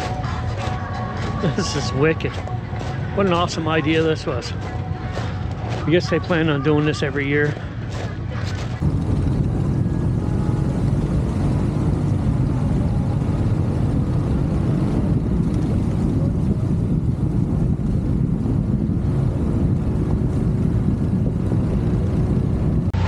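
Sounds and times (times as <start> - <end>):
atv engine droning: 0.0 - 23.0.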